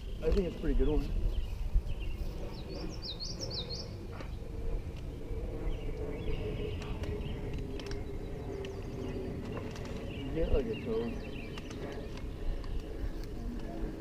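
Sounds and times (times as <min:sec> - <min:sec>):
songbird chirping: 0:00.0 - 0:04.4, 0:05.6 - 0:13.4
steady low rumble: 0:00.0 - 0:14.0.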